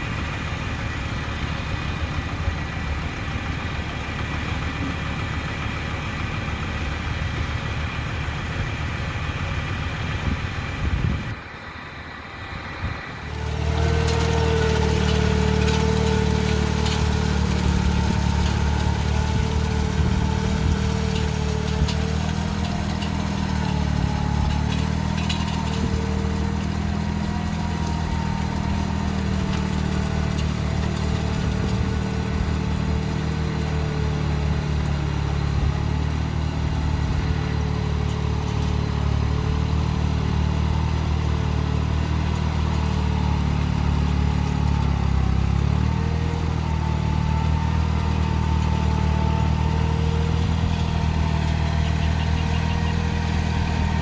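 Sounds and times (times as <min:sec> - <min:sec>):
tractor motor running: 0:00.0 - 0:54.0.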